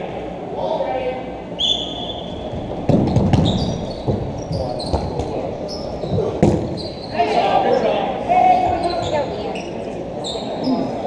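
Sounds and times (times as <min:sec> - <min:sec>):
sneakers squeaking on wooden floor: 0:01.7 - 0:10.9.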